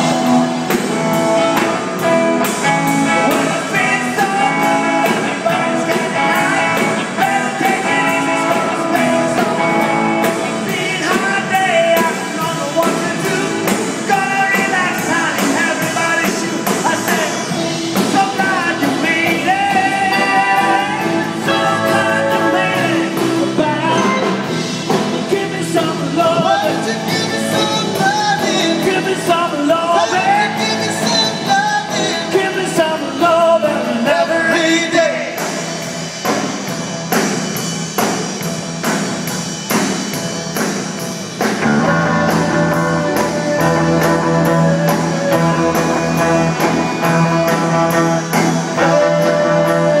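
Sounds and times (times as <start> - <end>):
person singing: 0.0 - 35.5, 41.6 - 50.0
live rock band playing: 0.0 - 50.0.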